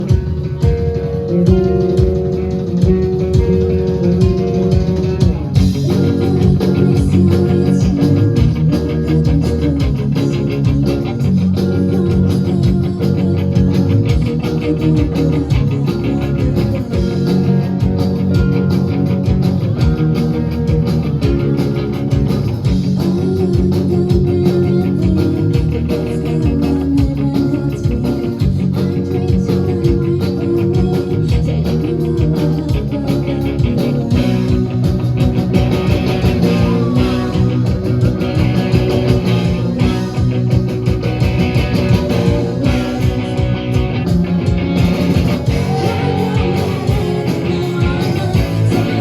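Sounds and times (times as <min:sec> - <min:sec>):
rock band playing: 0:00.0 - 0:49.0.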